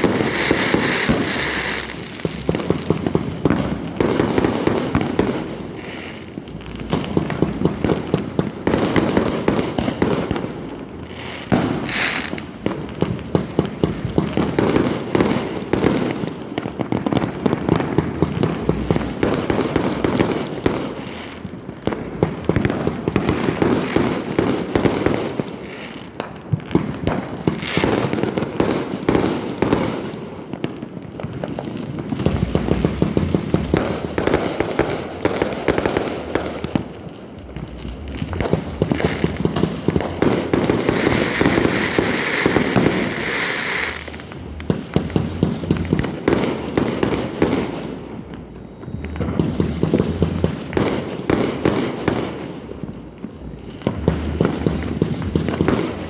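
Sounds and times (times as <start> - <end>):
fireworks barrage: 0.0 - 56.0.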